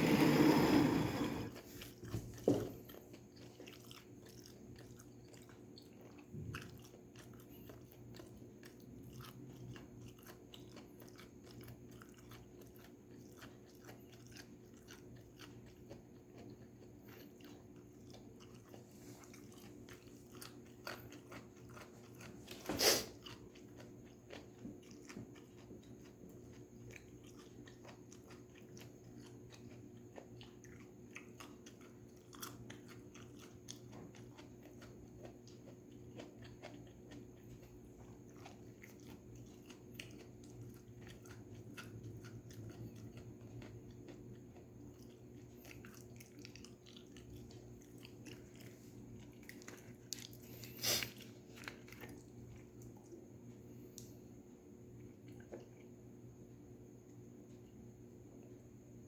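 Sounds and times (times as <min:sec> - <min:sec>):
chewing crunchy vegetables: 0:00.0 - 0:59.0.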